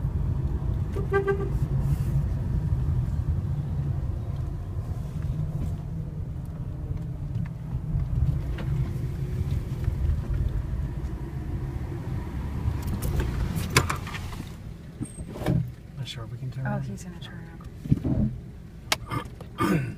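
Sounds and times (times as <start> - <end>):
car engine and road rumble: 0.0 - 19.9.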